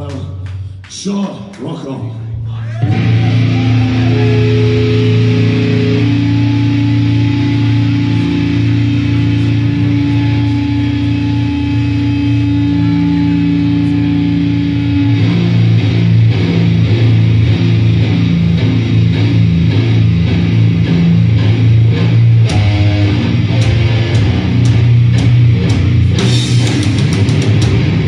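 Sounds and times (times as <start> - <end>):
distorted electric guitars and bass: 2.3 - 28.0
slow heavy metal played live: 2.8 - 28.0.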